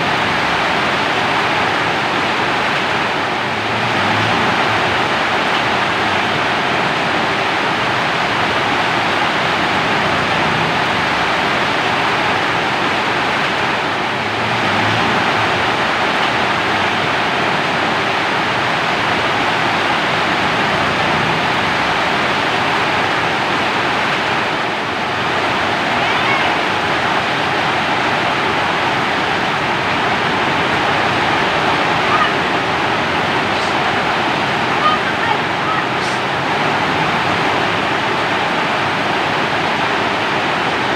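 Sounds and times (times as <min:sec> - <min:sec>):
heavy rainfall: 0:00.0 - 0:40.9.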